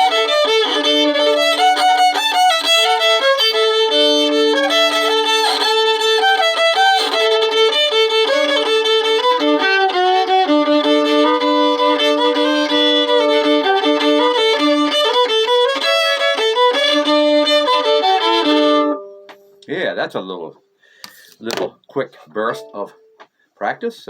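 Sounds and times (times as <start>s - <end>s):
solo fiddle bowed: 0.0s - 19.6s.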